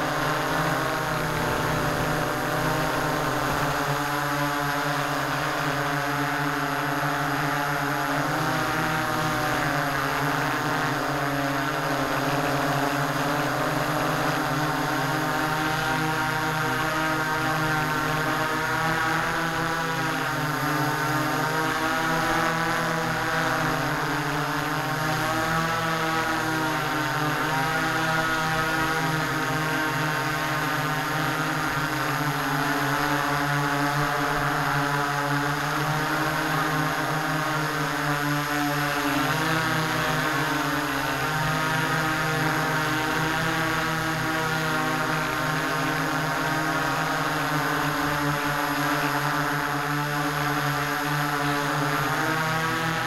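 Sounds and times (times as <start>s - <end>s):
drone motors and propellers humming: 0.0s - 53.0s.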